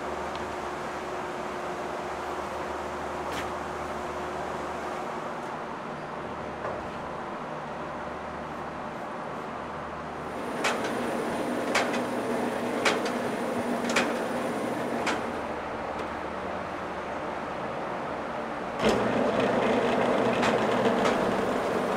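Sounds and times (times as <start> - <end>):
workshop machinery running: 0.0 - 21.9.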